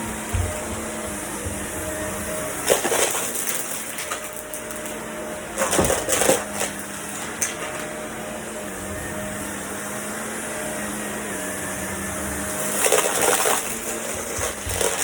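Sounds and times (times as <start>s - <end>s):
vacuum cleaner humming: 0.0s - 15.0s.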